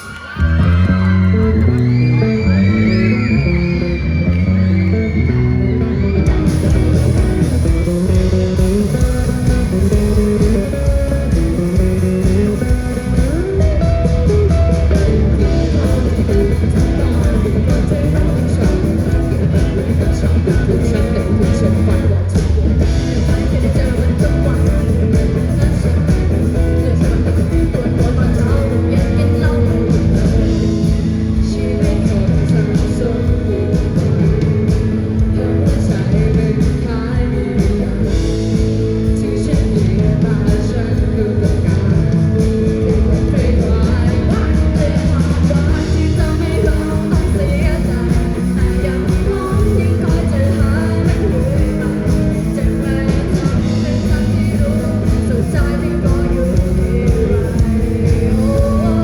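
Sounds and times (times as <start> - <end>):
live rock band with singer: 0.0 - 59.0.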